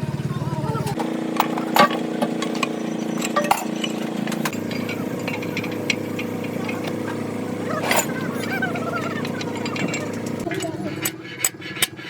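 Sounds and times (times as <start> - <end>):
engine running: 0.0 - 12.0
sharp clinks and knocks: 1.0 - 11.9.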